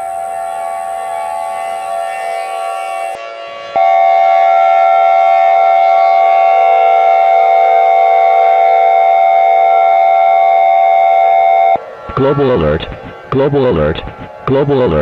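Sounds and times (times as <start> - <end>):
emergency alert tone: 0.0 - 15.0.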